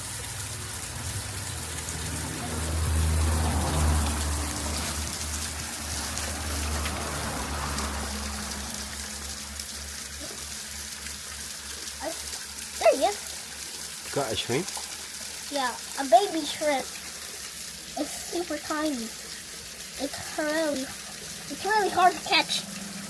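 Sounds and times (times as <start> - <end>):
river water rushing and trickling: 0.0 - 23.0.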